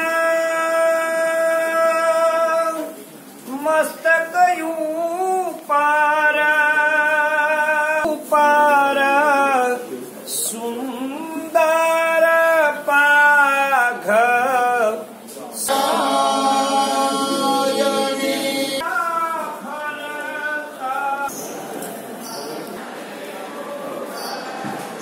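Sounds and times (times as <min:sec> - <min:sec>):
voices singing a chant: 0:00.0 - 0:25.0.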